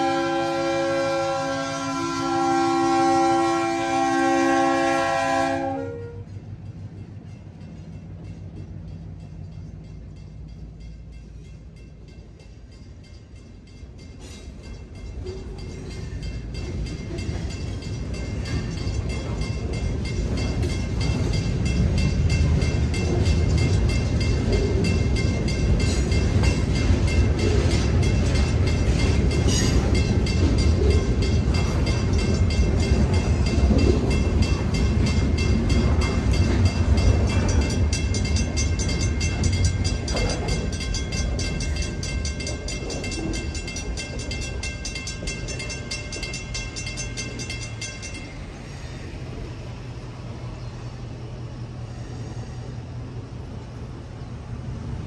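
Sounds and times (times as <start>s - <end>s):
crossing bell ringing: 0.0s - 49.5s
train wheels rumbling on rails: 0.0s - 55.0s.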